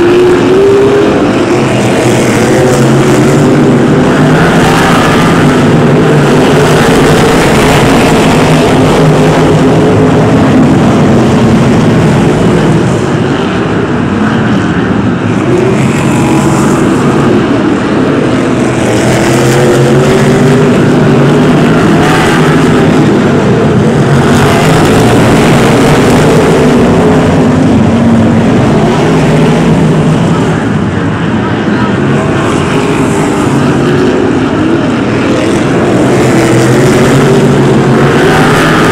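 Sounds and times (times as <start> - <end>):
racing car engines: 0.0 - 38.9.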